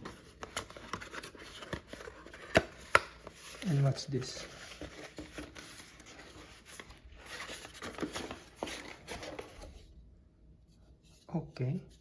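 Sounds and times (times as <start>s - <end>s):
packaging rustling: 0.0s - 9.7s.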